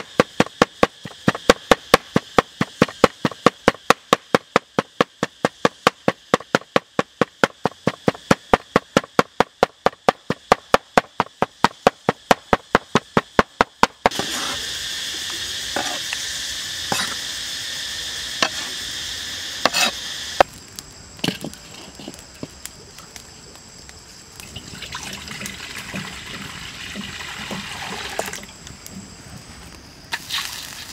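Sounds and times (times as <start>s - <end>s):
steady high hiss: 0.0s - 30.9s.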